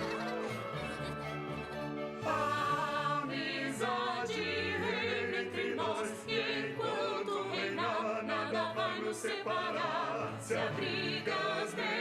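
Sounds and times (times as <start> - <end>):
choir singing a carol: 0.0 - 12.0.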